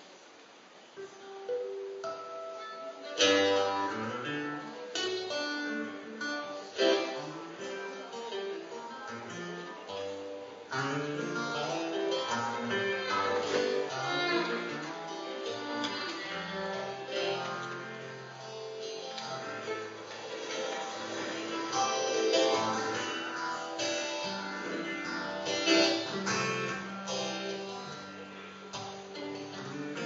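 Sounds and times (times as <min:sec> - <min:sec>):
acoustic guitar strumming chords: 0:01.3 - 0:30.0
fiddle melody: 0:01.4 - 0:30.0.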